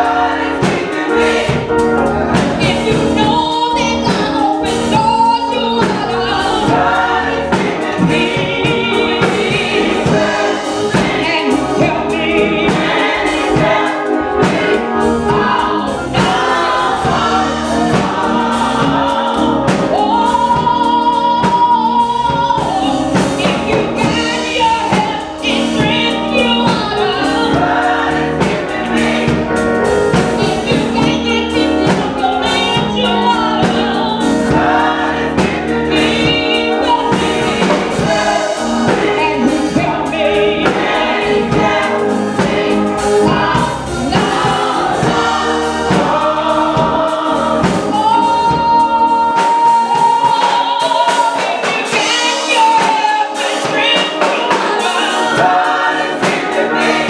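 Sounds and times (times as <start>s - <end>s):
gospel choir singing: 0.0s - 57.0s
instrumental backing with beat: 0.0s - 57.0s.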